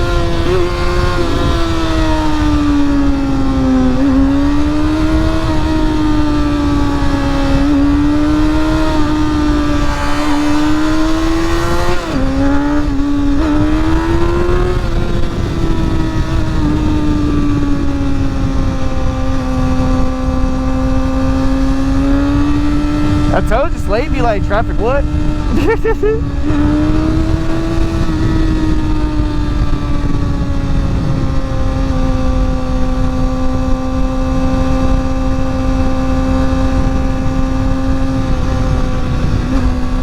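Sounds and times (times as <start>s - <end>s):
motorcycle engine revving: 0.0s - 40.0s
wind rush on microphone: 0.0s - 40.0s.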